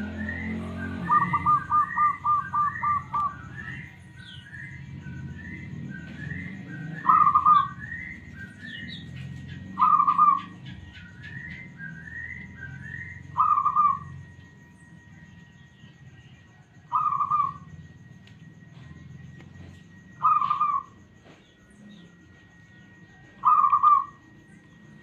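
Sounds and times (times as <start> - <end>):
dove cooing: 0.0 - 14.7, 16.0 - 25.0
high bird chirps: 0.0 - 16.0, 16.8 - 17.8, 19.7 - 25.0.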